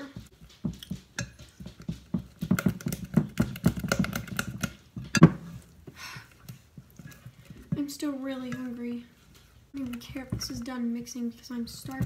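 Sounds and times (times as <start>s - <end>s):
batter stirred in a bowl: 0.1s - 12.0s.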